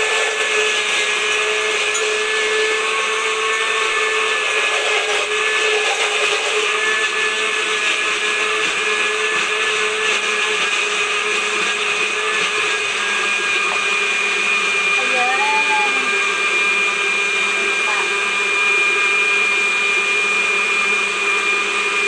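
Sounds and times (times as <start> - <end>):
blender motor whine: 0.0 - 22.0.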